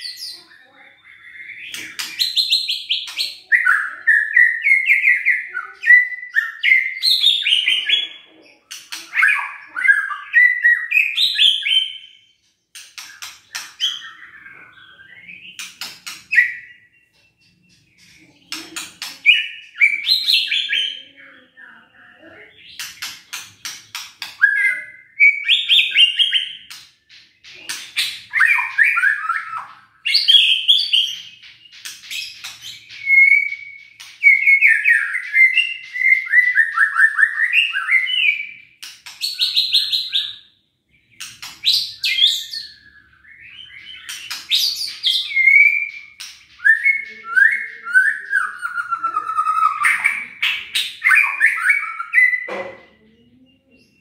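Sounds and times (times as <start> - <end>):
bird singing whistles and trills: 0.0 - 8.1, 9.1 - 12.3, 13.0 - 21.3, 22.5 - 26.8, 27.5 - 52.5.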